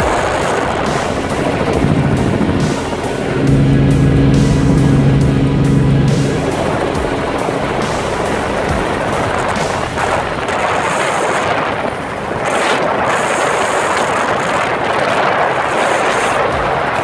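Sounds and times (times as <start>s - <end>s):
helicopter rotor and wind noise: 0.0s - 17.0s.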